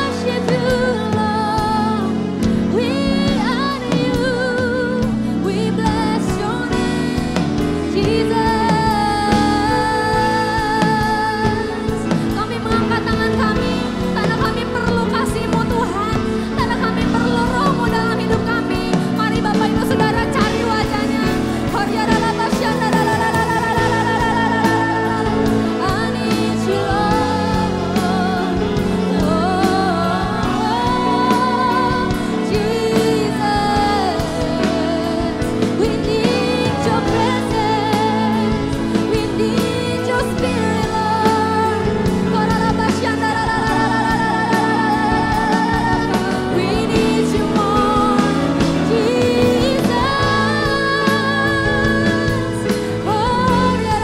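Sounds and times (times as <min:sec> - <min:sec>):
sustained instrumental chords: 0:00.0 - 0:54.0
women singing worship song: 0:00.0 - 0:54.0.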